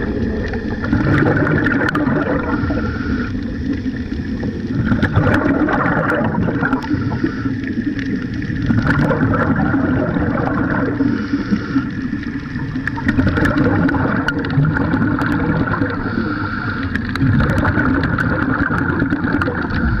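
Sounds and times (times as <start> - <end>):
air bubbling: 0.0 - 20.0
underwater scooter rumble: 0.0 - 20.0.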